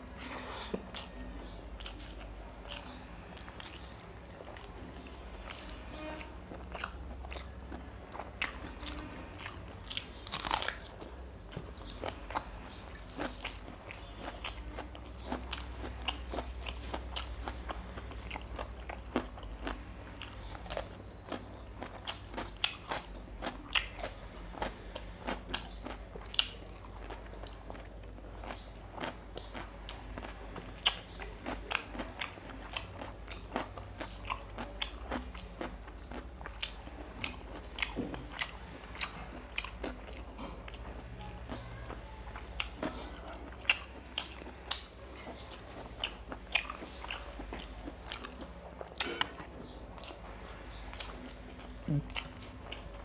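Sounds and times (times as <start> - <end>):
chewing and biting: 0.0 - 53.0.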